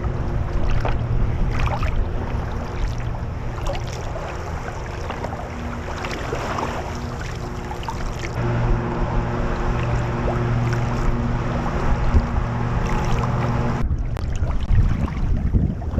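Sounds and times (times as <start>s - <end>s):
wind on microphone: 0.0s - 7.7s, 8.3s - 15.9s
faint motor hum: 0.0s - 15.9s
paddle splashing water: 0.0s - 15.9s.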